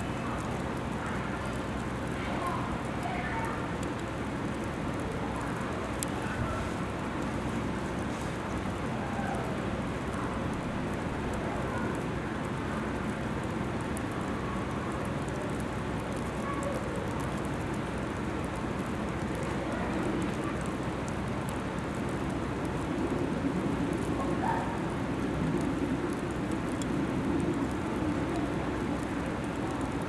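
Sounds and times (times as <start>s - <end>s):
constant low rumble: 0.0s - 30.0s.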